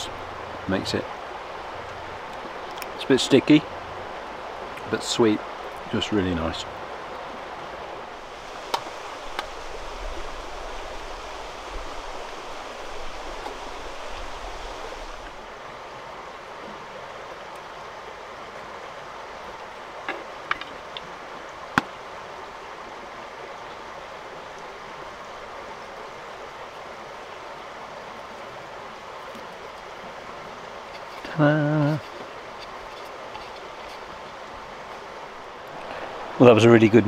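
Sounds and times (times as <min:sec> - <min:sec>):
stream running: 0:00.0 - 0:37.0.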